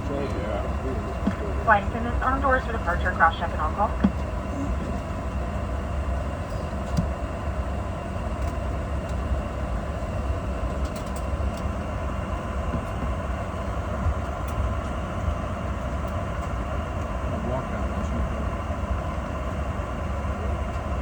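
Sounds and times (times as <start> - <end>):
aircraft cabin rumble and hiss: 0.0 - 21.0.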